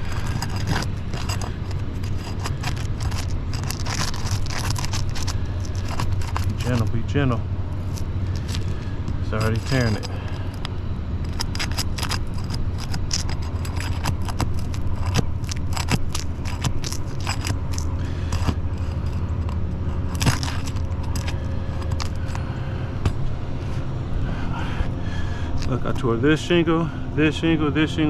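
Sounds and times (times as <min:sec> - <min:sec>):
roof shingles tearing and scraping: 0:00.0 - 0:23.8
steady low rumble: 0:00.0 - 0:28.0.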